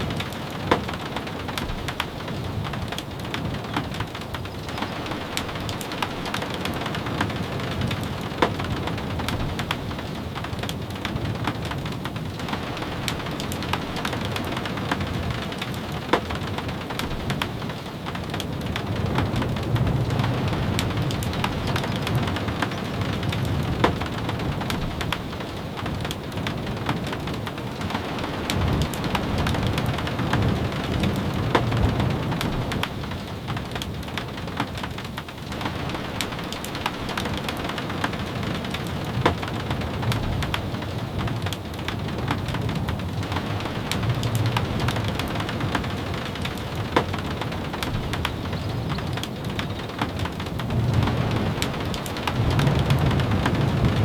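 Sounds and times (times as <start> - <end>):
rain on windows: 0.0 - 54.0
raindrop ticks: 0.0 - 54.0.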